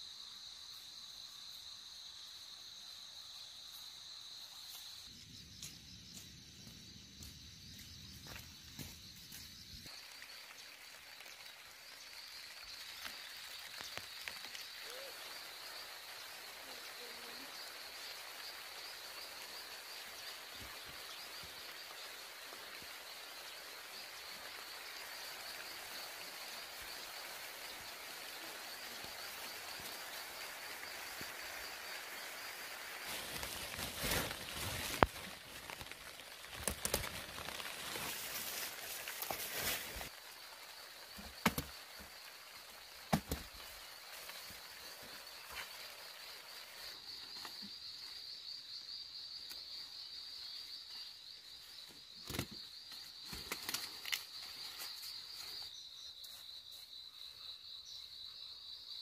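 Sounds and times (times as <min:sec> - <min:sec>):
outdoor hiss: 0:00.0 - 0:56.9
insects trilling: 0:00.0 - 0:59.0
rustling leaves and vines: 0:03.5 - 0:57.0.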